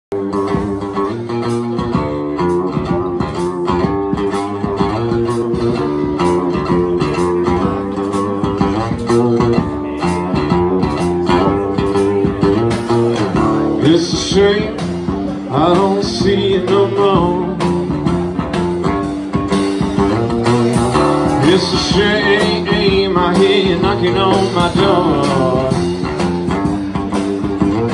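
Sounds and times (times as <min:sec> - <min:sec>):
acoustic guitar strumming: 0:00.1 - 0:27.9
drums and cymbals: 0:00.1 - 0:27.9.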